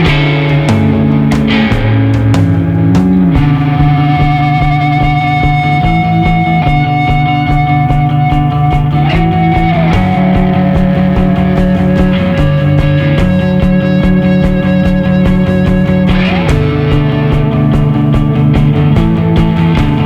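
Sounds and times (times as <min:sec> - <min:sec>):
rock music with electric guitar: 0:00.0 - 0:20.0.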